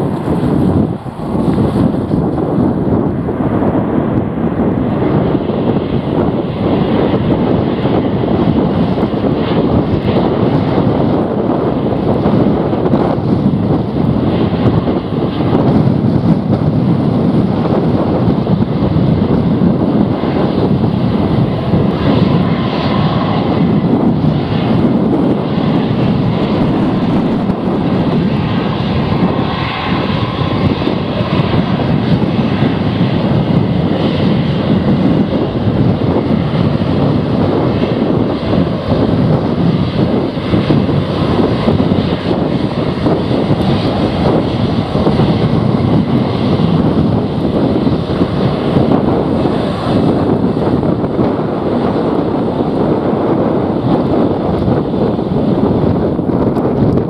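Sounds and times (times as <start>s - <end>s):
faint engine whine: 0.0s - 57.0s
jet engines rumbling: 0.0s - 57.0s.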